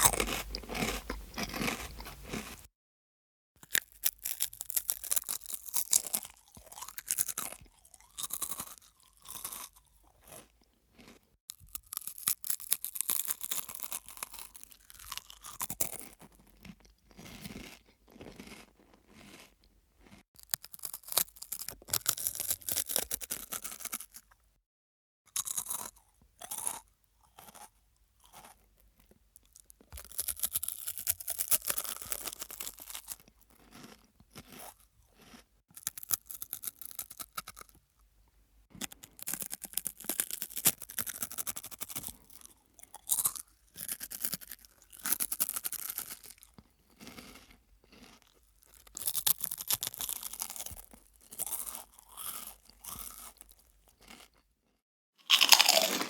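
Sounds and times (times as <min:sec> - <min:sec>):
person chewing crunchy snack: 0:00.0 - 0:02.7, 0:03.6 - 0:24.4, 0:25.3 - 0:37.8, 0:38.7 - 0:56.0.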